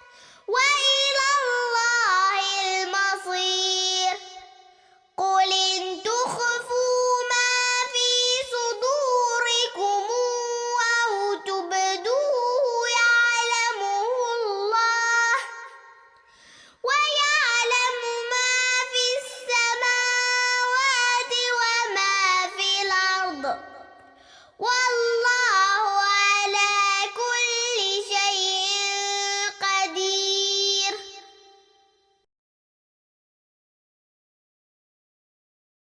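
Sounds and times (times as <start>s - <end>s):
girl chanting melodically: 0.0s - 31.9s.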